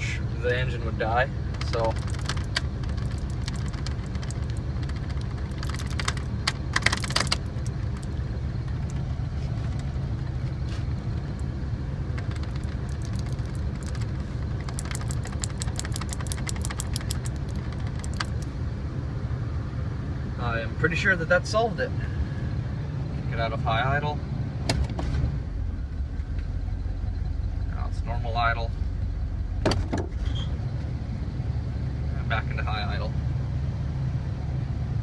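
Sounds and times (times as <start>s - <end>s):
engine running at high idle: 0.0s - 35.0s.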